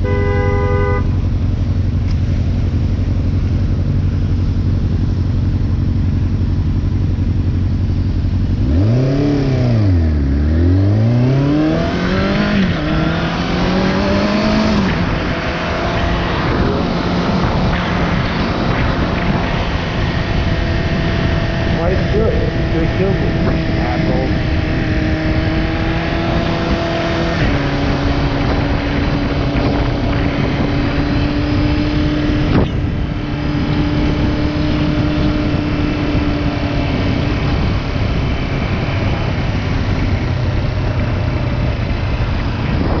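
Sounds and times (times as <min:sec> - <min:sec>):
motorcycle engine running: 0:00.0 - 0:43.0
wind and road noise: 0:00.0 - 0:43.0.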